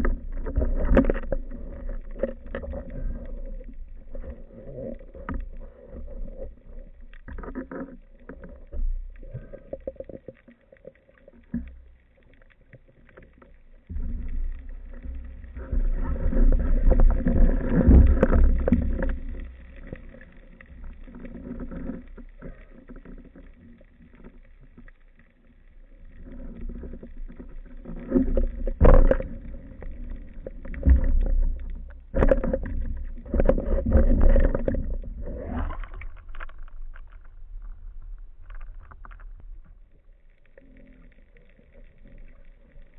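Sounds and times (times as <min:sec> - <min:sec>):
muffled water sloshing and splashing: 0:00.0 - 0:42.9.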